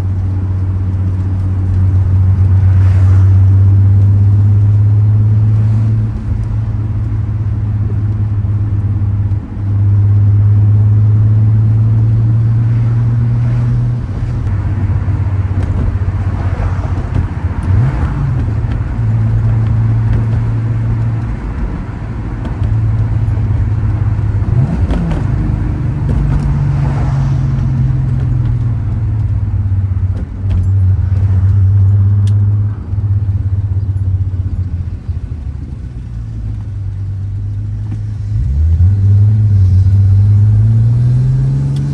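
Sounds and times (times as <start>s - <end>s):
car engine exhaust drone: 0.0s - 41.9s.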